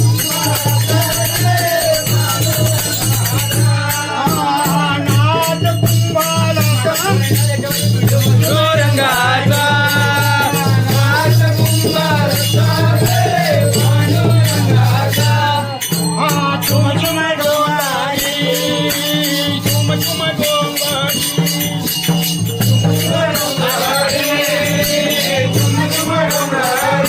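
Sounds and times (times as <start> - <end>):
man singing: 0.0 - 27.0
shaken percussion beat: 0.0 - 27.0.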